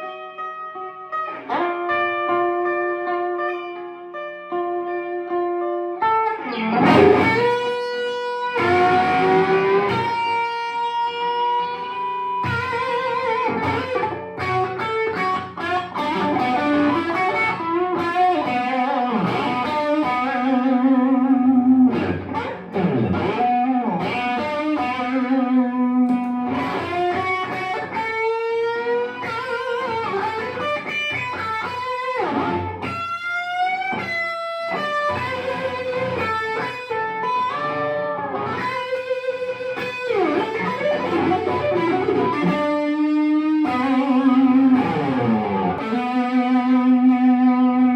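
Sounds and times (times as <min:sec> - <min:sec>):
electric guitar lead with vibrato: 0:00.0 - 0:47.9.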